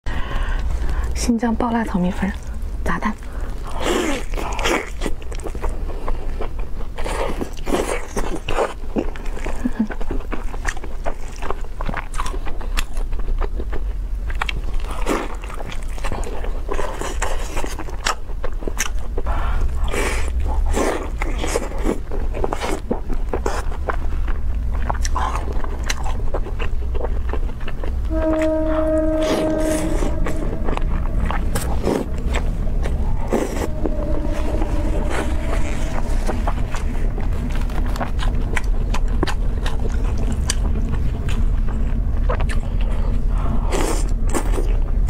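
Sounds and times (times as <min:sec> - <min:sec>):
steady low hum: 0:00.1 - 0:45.0
person chewing and slurping: 0:02.4 - 0:45.0.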